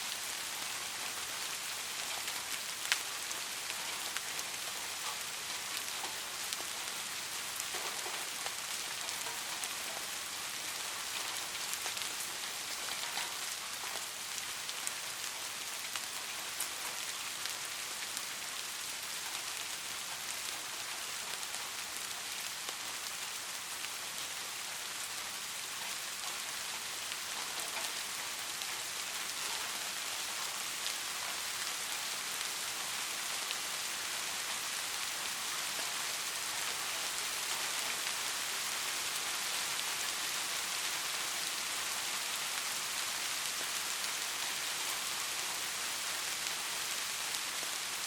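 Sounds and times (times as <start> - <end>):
rain hissing: 0.0 - 48.0
raindrops pattering: 0.0 - 48.0.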